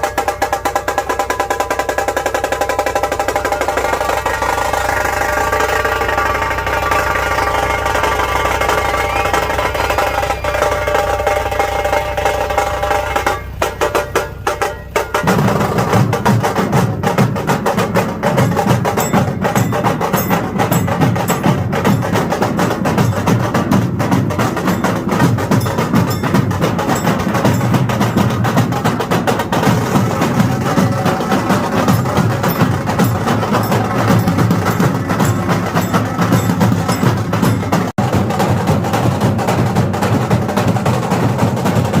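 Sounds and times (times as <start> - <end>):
music with fast dense drumming: 0.0 - 42.0.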